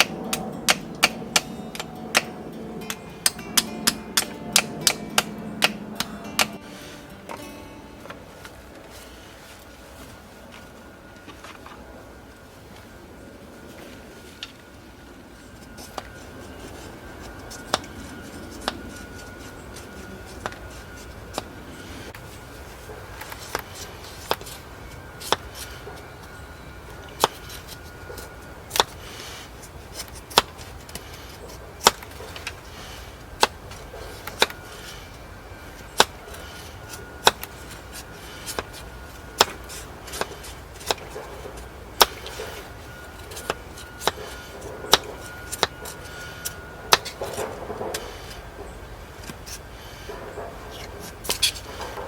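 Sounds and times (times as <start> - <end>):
steady low background noise: 0.0 - 52.0.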